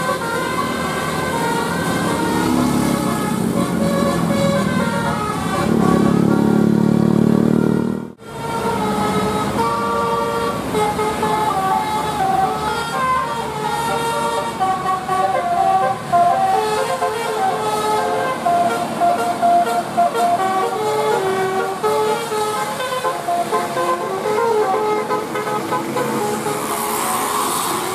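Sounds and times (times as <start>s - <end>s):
bus horns playing melodic runs: 0.0s - 27.9s.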